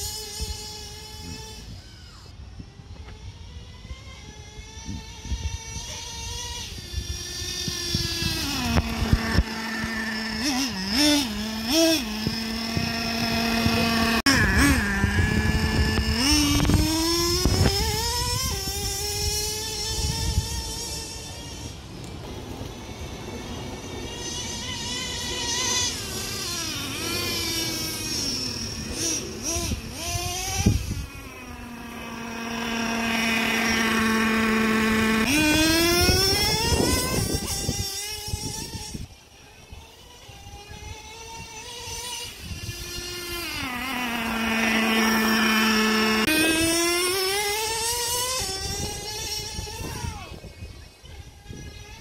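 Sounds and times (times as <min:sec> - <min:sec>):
small engine revving and idling: 0:00.0 - 0:52.0.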